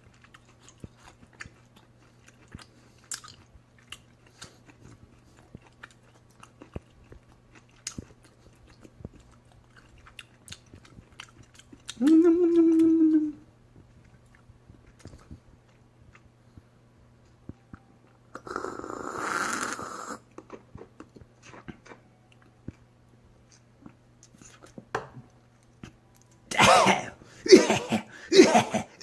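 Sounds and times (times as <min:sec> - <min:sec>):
person chewing food: 0:00.0 - 0:16.8, 0:17.5 - 0:24.9.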